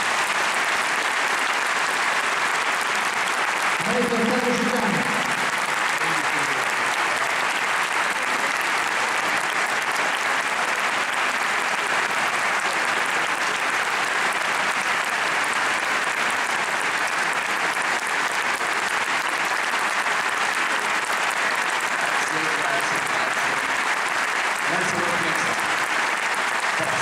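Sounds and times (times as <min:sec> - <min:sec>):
audience applauding: 0:00.0 - 0:27.0
hands clapping close by: 0:00.0 - 0:27.0.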